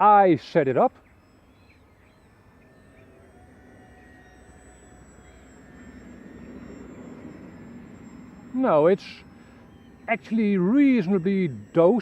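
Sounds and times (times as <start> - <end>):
distant model plane whine: 0.0 - 12.0.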